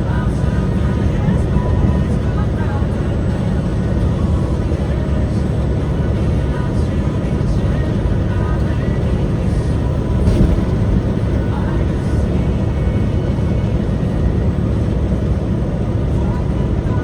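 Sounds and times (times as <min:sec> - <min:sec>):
faint music: 0:00.0 - 0:17.0
truck rumbling: 0:00.0 - 0:17.0.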